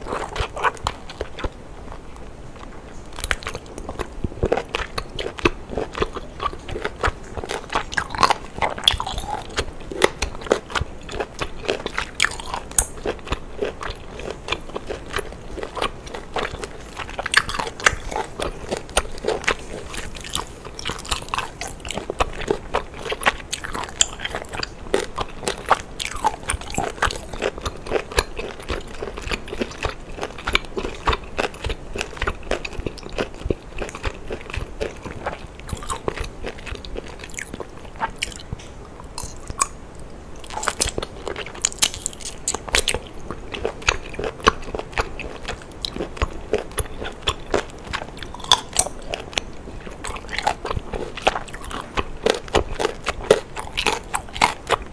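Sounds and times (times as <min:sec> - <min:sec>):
chewing and biting: 0:00.0 - 0:54.9.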